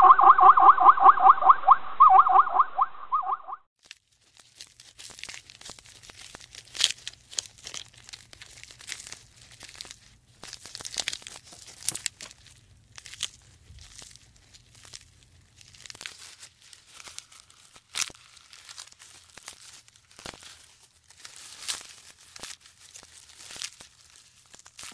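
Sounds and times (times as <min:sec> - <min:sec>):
giraffe stripping leaves: 0:03.8 - 0:24.9.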